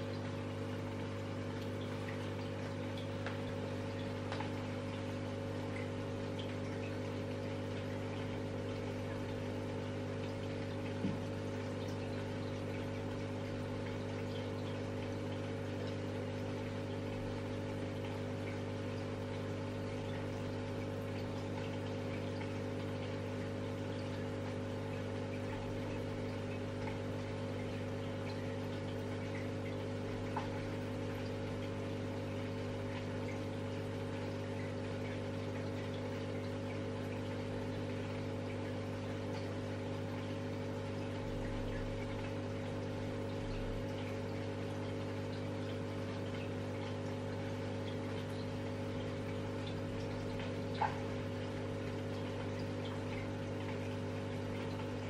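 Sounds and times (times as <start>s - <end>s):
water bubbling: 0.0s - 55.0s.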